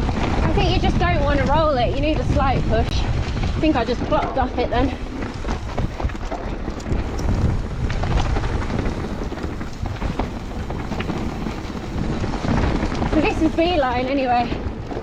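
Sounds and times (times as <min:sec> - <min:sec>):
bike rattles and clicks: 0:00.0 - 0:15.0
bike tyres on trail: 0:00.0 - 0:15.0
wind buffeting microphone: 0:00.0 - 0:15.0.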